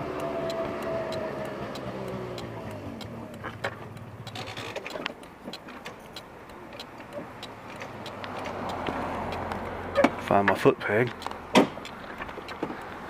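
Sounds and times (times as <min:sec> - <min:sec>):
light clicks and ticks: 0:00.0 - 0:13.0
scooter engine humming: 0:00.0 - 0:13.0.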